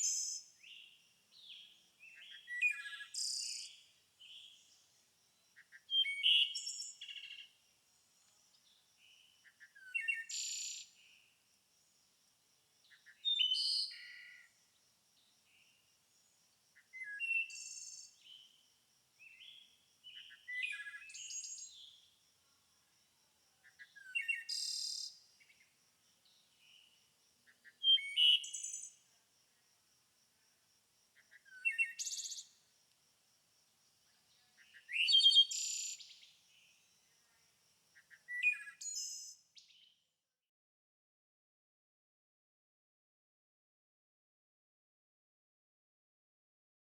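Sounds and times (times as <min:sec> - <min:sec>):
songbird singing: 0:00.0 - 0:29.8, 0:31.0 - 0:32.7, 0:33.8 - 0:40.0.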